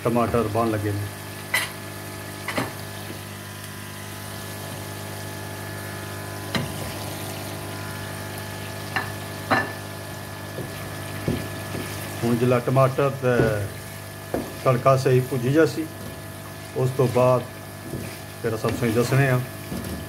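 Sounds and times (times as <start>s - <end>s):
masala sizzling in oil: 0.8s - 20.0s.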